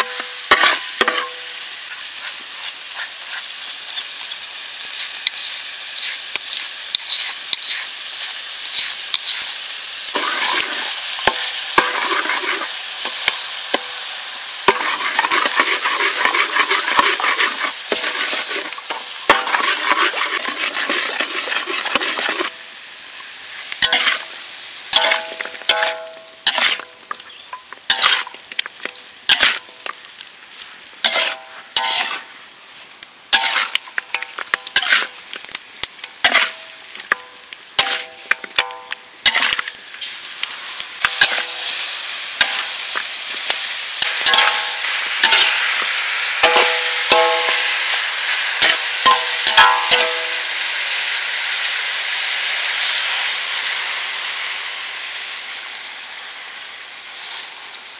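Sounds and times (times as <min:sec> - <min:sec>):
spatula scraping a wok: 0:00.0 - 0:22.6, 0:23.8 - 0:35.2, 0:36.1 - 0:50.9
ribs sizzling in a wok: 0:00.0 - 0:57.9.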